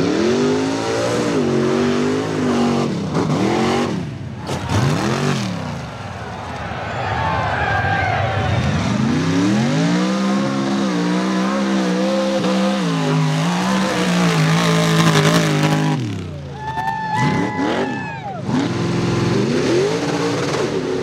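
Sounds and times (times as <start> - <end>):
truck engine revving: 0.0 - 6.6, 8.3 - 16.6, 17.2 - 21.0.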